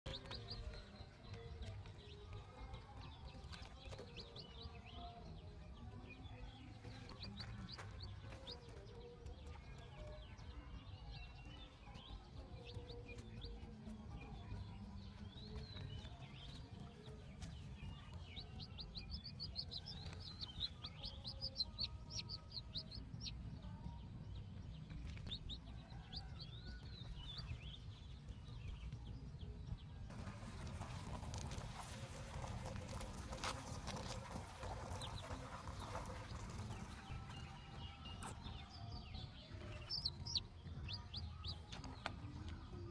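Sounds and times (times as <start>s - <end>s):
chick peeping: 0.0s - 5.2s, 6.1s - 10.5s, 11.2s - 13.7s, 14.4s - 29.0s, 32.3s - 42.7s.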